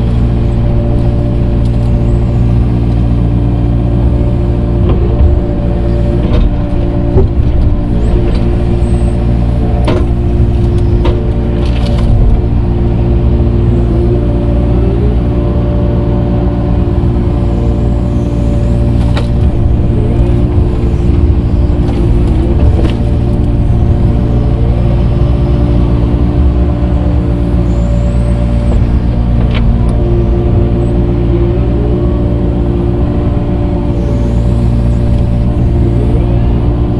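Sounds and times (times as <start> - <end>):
earthmoving machine engine running: 0.0 - 36.9.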